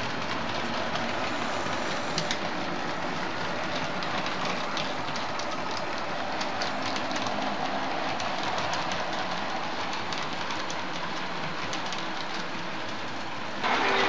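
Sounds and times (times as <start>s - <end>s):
model train whirring: 0.0s - 14.0s
wheels clicking on rails: 0.0s - 14.0s.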